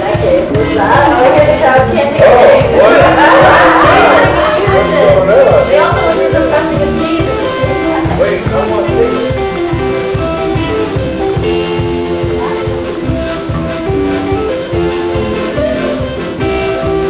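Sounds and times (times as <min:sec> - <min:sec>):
guitar: 0:00.0 - 0:17.0
live band playing: 0:00.0 - 0:17.0.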